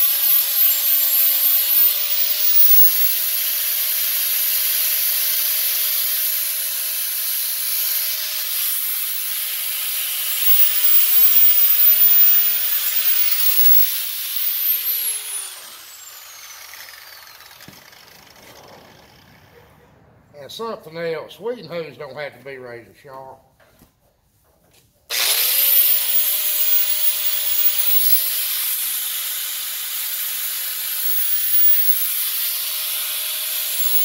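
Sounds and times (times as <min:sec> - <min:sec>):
grinder grinding steel: 0:00.0 - 0:19.6, 0:25.1 - 0:34.0.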